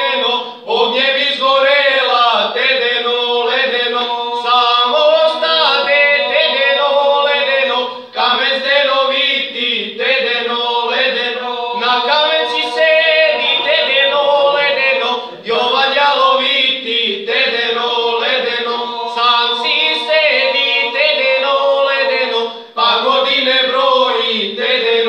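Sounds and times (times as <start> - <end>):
men singing a cappella: 0.0 - 25.0.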